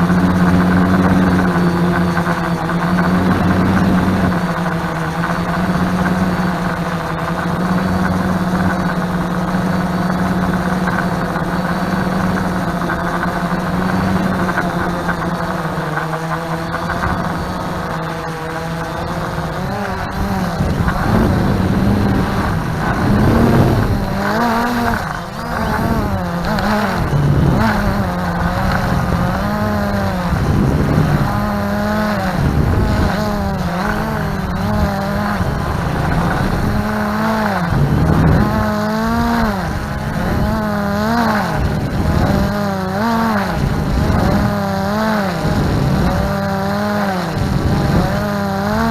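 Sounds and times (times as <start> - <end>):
drone motors buzzing: 0.0 - 48.9.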